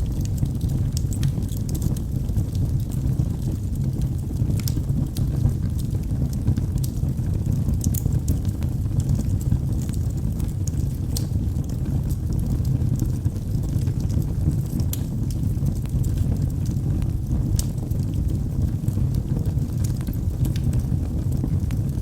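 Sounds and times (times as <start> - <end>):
fire crackling and popping: 0.0 - 22.0
low rumble of burning logs: 0.0 - 22.0.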